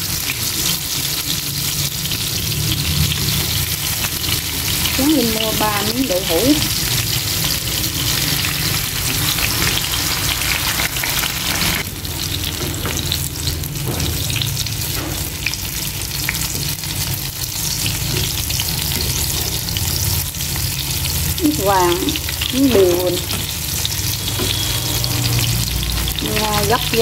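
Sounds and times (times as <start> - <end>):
tofu sizzling in hot oil: 0.0 - 27.0.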